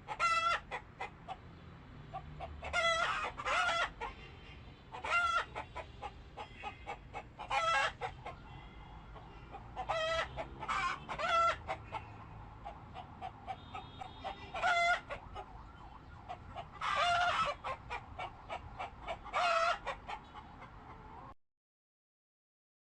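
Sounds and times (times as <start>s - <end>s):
chickens clucking: 0.0s - 4.2s, 4.9s - 21.4s
chickens squawking: 0.0s - 4.2s, 4.9s - 21.3s.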